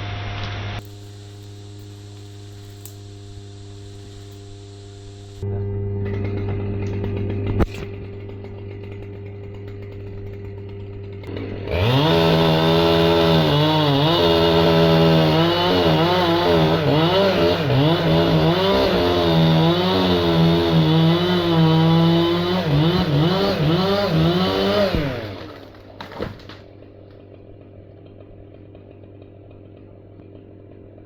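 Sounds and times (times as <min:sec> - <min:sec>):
chainsaw engine revving: 0:00.6 - 0:31.0.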